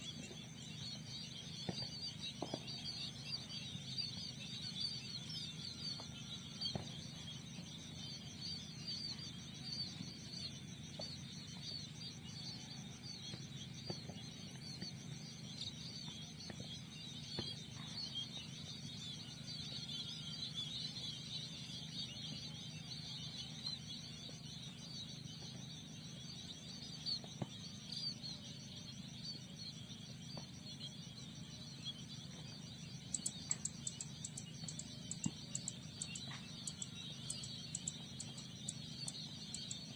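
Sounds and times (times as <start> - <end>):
high insect trill: 0.0 - 39.9
small birds chirping: 0.0 - 39.9.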